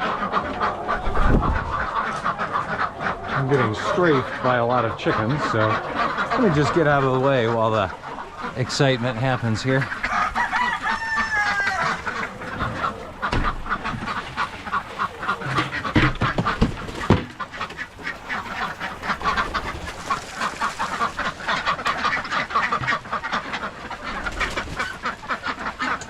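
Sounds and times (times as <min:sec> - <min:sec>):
chickens clucking: 0:00.0 - 0:26.0
ducks quacking: 0:00.0 - 0:26.0.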